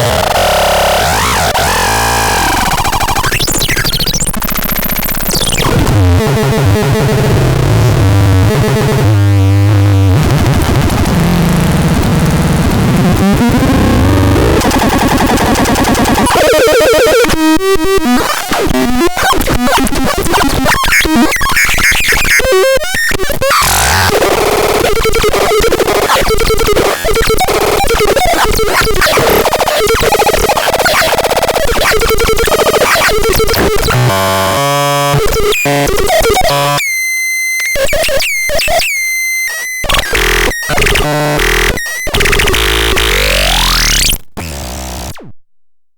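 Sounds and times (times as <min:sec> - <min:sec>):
harsh synthesizer noise: 0:00.0 - 0:45.3.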